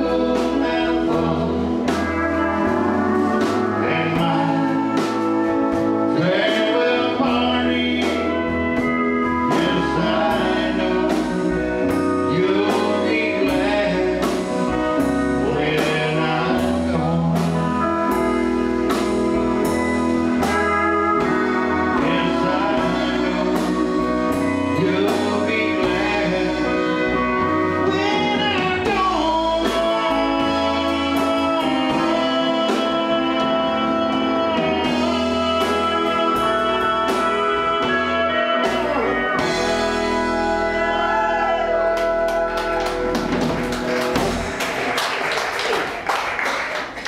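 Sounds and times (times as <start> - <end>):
man singing: 0.0 - 44.3
pedal steel guitar: 0.0 - 44.6
bass: 0.0 - 47.0
drums: 0.0 - 47.0
electric guitar: 0.0 - 47.0.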